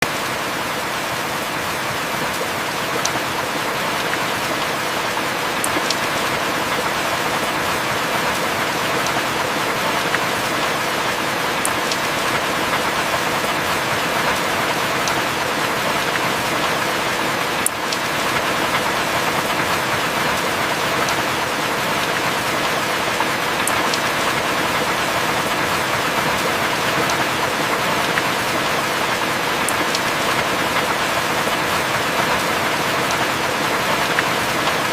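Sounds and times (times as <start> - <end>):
heavy rain falling: 0.0 - 34.9
raindrops ticking: 2.2 - 34.9.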